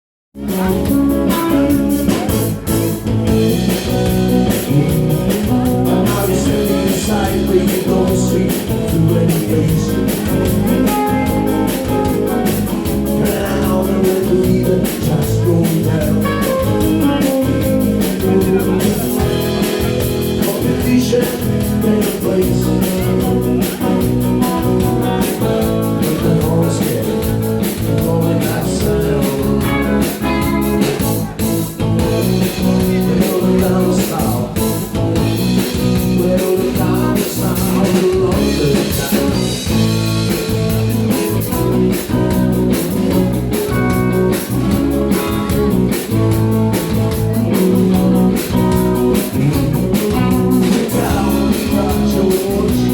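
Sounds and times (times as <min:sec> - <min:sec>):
person singing: 0:00.4 - 0:31.4, 0:32.1 - 0:52.9
live country band playing: 0:00.4 - 0:52.9.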